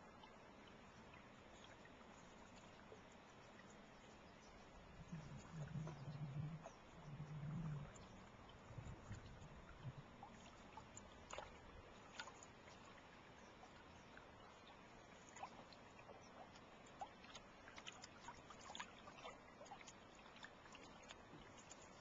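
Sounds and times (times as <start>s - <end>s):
water lapping against canoe hull: 0.0s - 22.0s.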